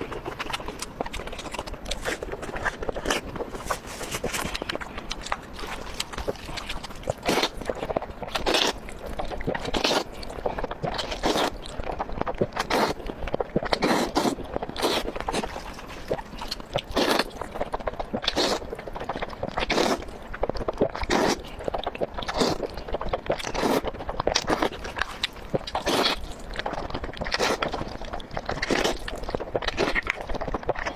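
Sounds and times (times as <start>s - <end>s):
crisp bites and crunchy chewing: 0.0s - 30.9s.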